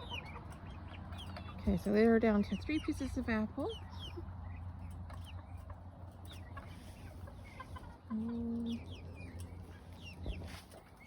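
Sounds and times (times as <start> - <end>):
chickens clucking and peeping: 0.0 - 11.0.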